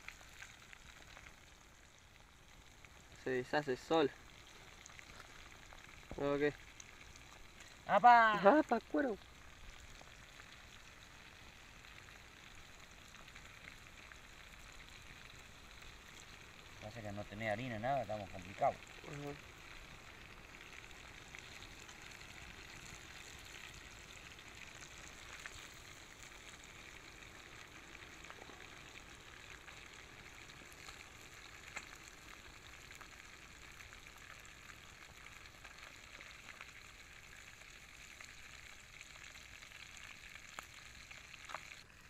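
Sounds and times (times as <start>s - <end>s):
fish sizzling in oil: 0.0s - 42.0s.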